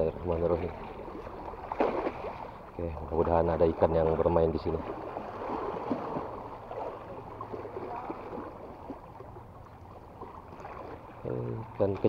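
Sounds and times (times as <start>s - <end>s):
sea water sloshing around rocks: 0.0s - 12.0s.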